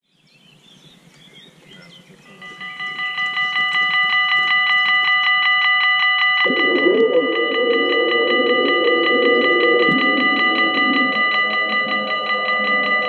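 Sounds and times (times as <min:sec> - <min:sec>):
level crossing bell ringing: 0:02.4 - 0:13.0.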